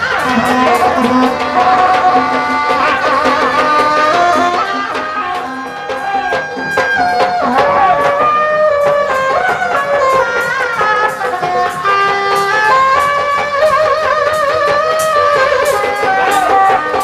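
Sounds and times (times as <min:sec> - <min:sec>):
hand drums beat: 0:00.0 - 0:17.0
wind instrument melody: 0:00.0 - 0:17.0.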